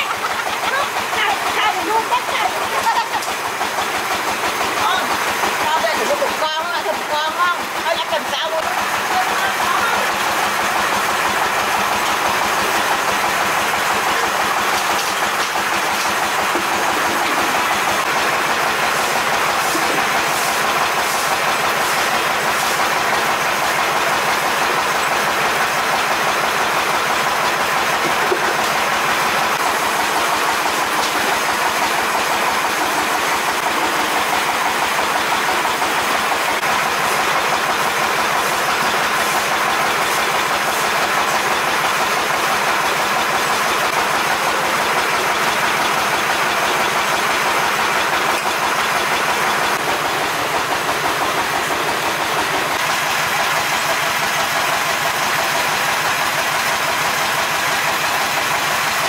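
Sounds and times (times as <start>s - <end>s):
oil sizzling in wok: 7.0s - 59.0s.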